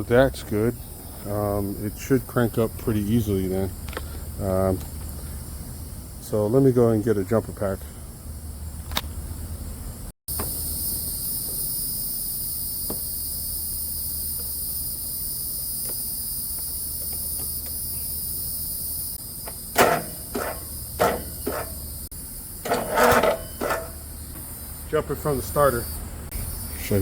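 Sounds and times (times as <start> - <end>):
insect chorus chirring: 0.2 - 9.4, 10.3 - 27.0.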